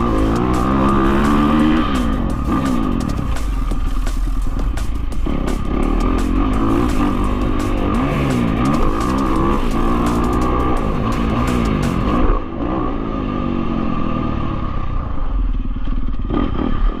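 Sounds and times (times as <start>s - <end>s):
dirt bike engine revving: 0.0s - 14.7s, 16.2s - 17.0s.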